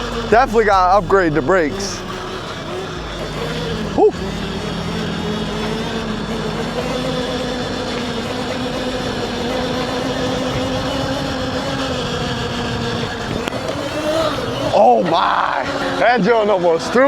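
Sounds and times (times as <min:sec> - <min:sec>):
electric motor whining: 0:00.0 - 0:17.0
wind and tyre noise: 0:00.0 - 0:17.0.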